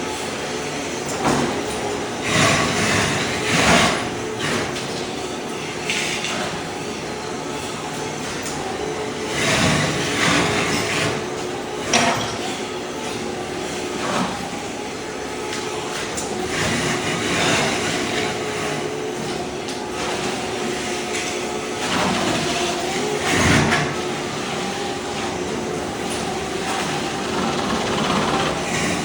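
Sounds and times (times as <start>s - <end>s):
floor scraper machine hum: 0.0s - 29.0s.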